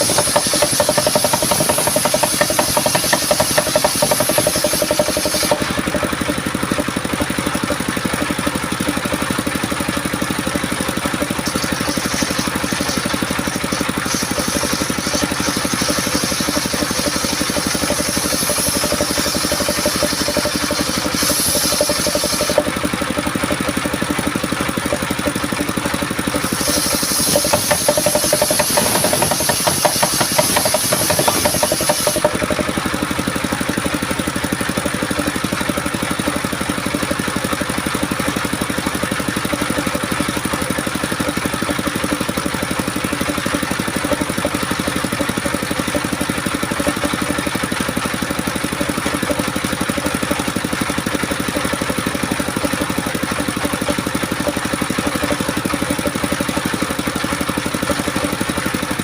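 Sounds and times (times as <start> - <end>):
circular sawmill sawing wood: 0.0 - 59.0.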